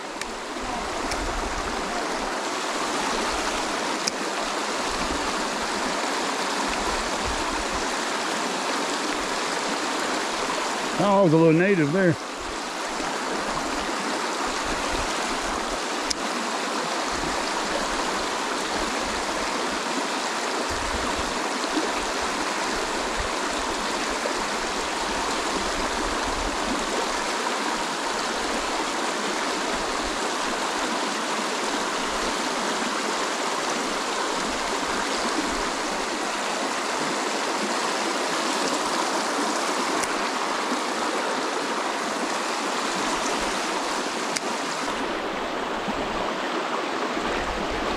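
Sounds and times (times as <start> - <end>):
creek rushing over stones: 0.0 - 47.9.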